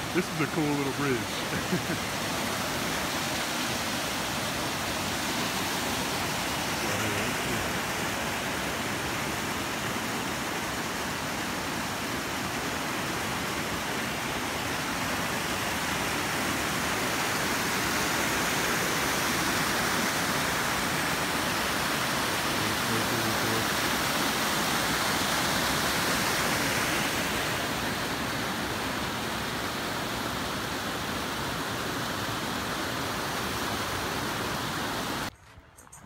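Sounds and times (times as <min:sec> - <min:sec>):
creek rushing over boulders: 0:00.0 - 0:35.3.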